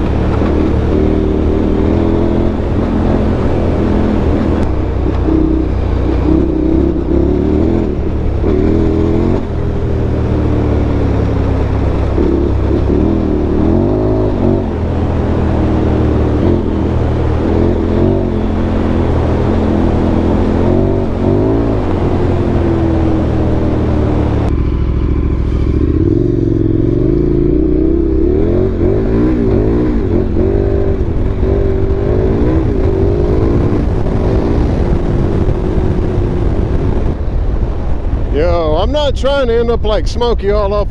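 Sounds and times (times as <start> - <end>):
motorcycle engine revving: 0.0 - 39.5.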